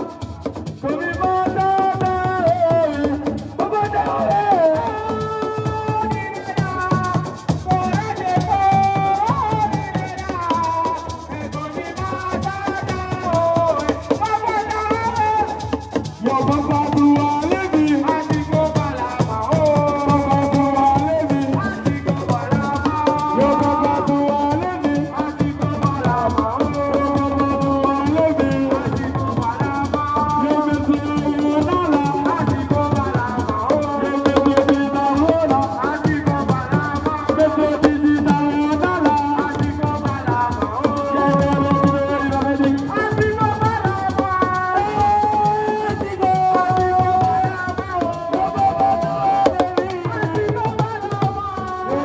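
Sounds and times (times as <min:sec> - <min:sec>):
drums and shaker rattles: 0:00.0 - 0:52.0.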